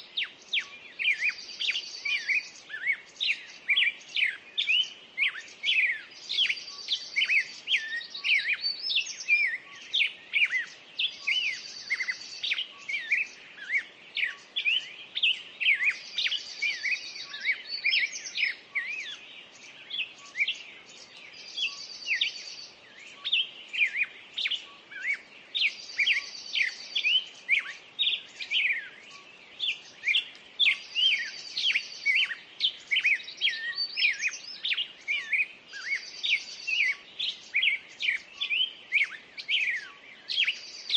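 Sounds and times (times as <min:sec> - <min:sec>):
wild birds singing: 0:00.0 - 0:40.9.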